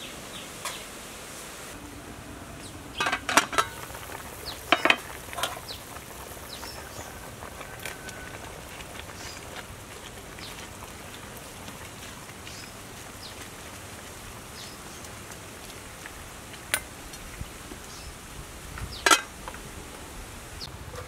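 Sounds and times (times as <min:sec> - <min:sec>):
soup boiling in a metal pot: 0:01.7 - 0:21.0.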